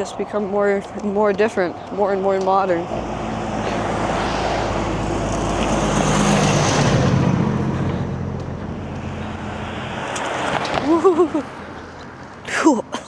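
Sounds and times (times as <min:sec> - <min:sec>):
vehicle passing by: 0:01.2 - 0:12.4.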